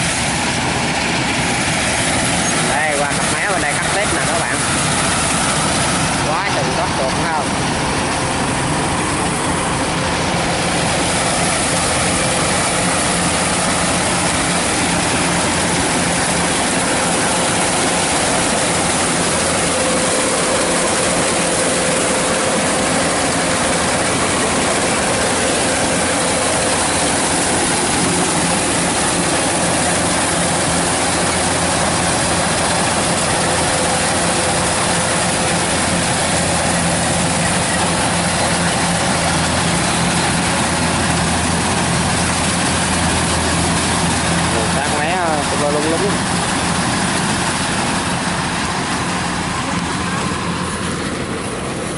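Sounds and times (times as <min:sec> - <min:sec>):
combine harvester running: 0:00.0 - 0:51.9.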